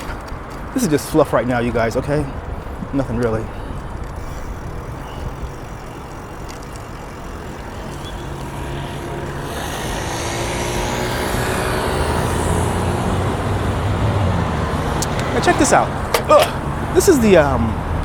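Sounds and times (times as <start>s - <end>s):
car engine hum: 0.0s - 18.0s
tyre and road noise: 0.0s - 18.0s.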